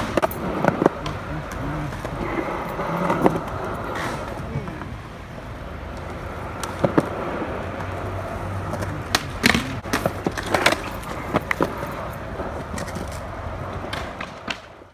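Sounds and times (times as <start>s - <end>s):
low outdoor background hum: 0.0s - 14.9s.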